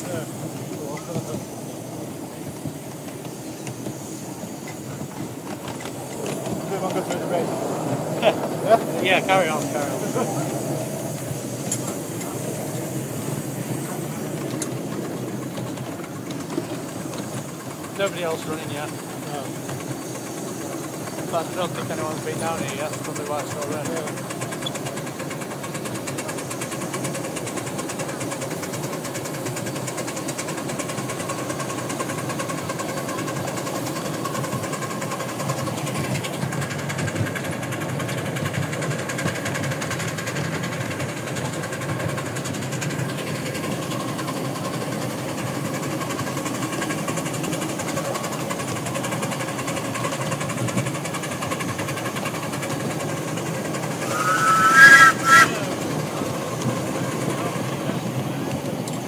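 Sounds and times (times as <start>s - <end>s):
steam locomotive exhaust chuffs: 0.0s - 59.0s
wheels rattling on track: 0.0s - 59.0s.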